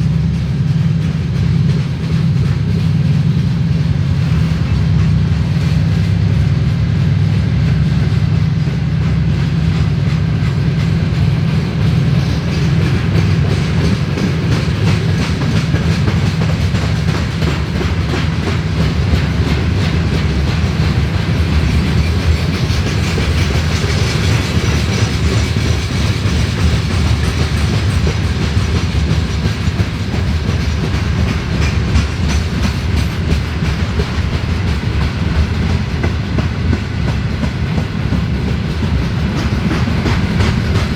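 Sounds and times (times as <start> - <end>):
freight train rumbling past: 0.0 - 40.9
wheels clacking over rail joints: 0.1 - 40.9.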